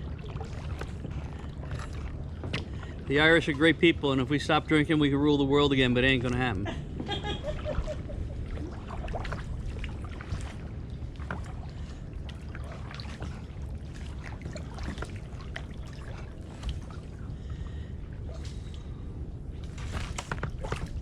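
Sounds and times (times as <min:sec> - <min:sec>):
low rumble: 0:00.0 - 0:21.0
paddle splashing water: 0:00.0 - 0:21.0.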